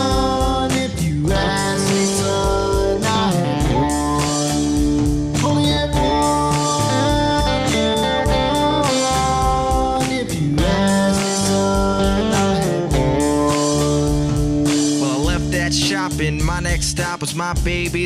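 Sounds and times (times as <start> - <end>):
country music electric guitar: 0.0 - 18.0.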